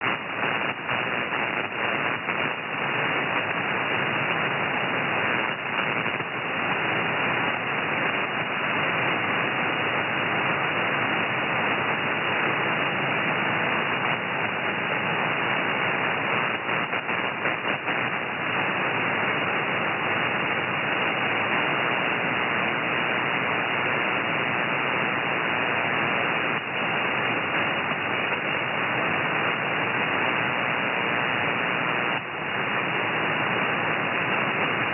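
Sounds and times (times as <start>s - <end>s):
radio crackles: 0.0s - 34.9s
radio static hiss: 0.0s - 34.9s.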